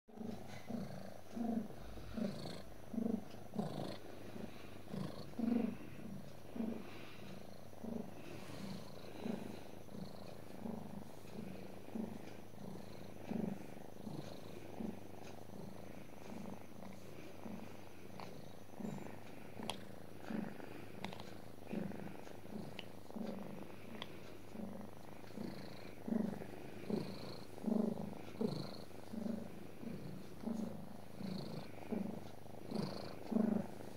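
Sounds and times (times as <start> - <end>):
cat purring: 0.1 - 33.9.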